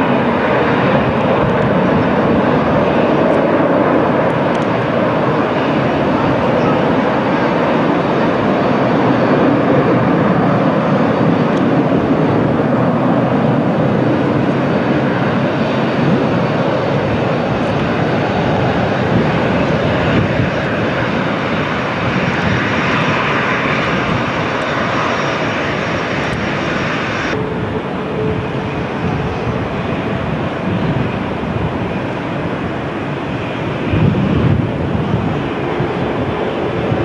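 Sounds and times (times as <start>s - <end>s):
aircraft engine rushing: 0.0s - 37.0s.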